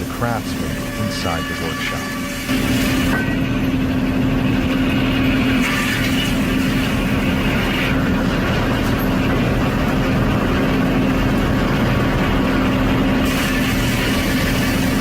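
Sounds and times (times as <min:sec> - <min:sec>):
circular saw machinery humming: 0:00.0 - 0:15.0.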